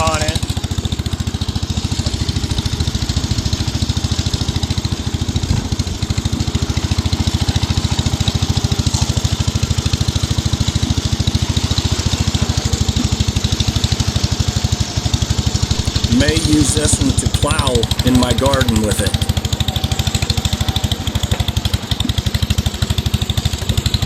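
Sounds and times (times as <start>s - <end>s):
riding mower engine running: 0.0s - 24.0s.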